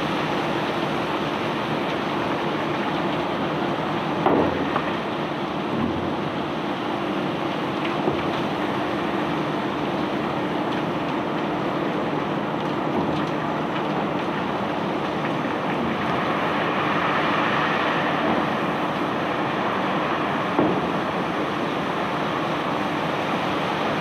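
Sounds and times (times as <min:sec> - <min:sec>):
continuous rushing noise: 0:00.0 - 0:24.0
engine hum: 0:00.0 - 0:24.0.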